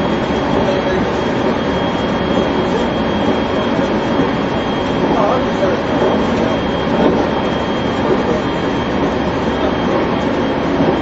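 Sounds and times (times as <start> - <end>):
thin steady high tone: 0.0 - 11.0
train running rumble: 0.0 - 11.0.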